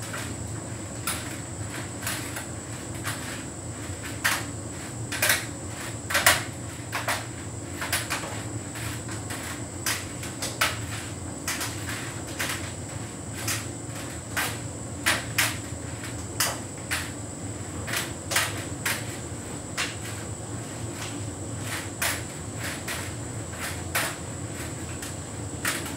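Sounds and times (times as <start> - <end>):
tumble dryer humming: 0.0 - 25.9.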